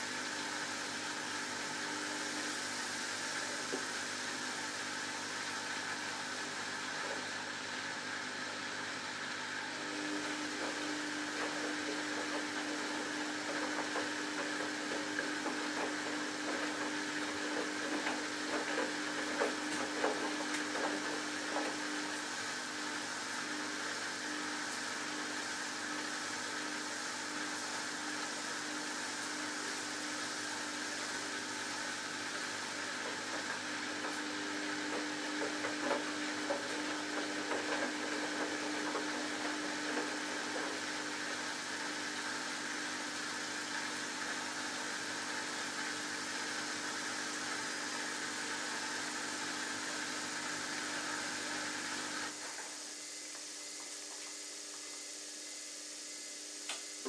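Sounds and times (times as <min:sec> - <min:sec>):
washing machine motor hum: 0:00.0 - 0:57.0.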